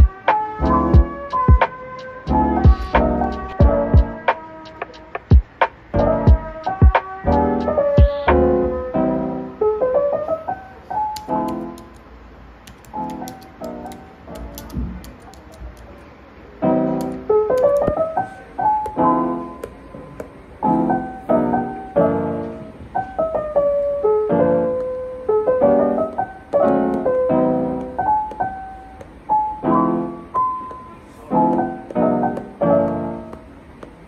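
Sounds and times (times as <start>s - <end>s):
piano chords and melody: 0.0s - 34.0s.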